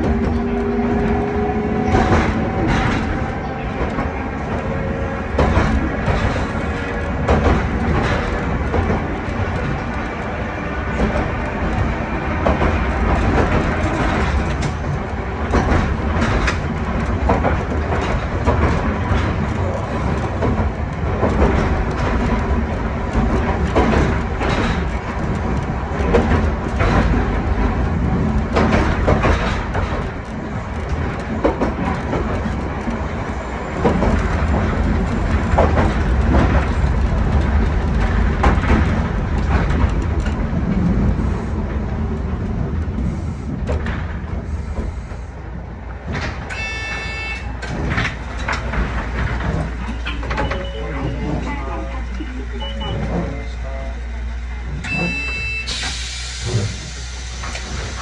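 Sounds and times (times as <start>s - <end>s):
wheels clacking over rails: 0.0s - 53.3s
tram motors rumbling: 0.0s - 58.0s.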